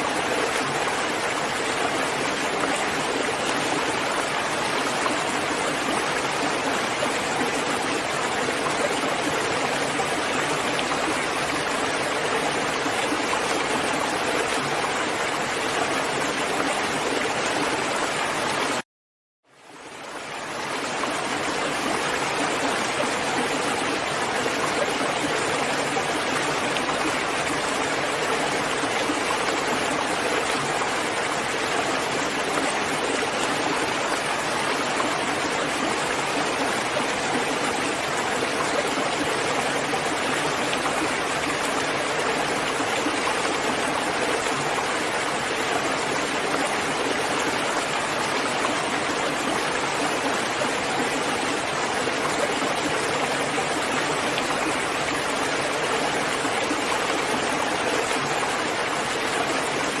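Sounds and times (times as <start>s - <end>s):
heavy rainfall: 0.0s - 18.8s, 19.6s - 60.0s.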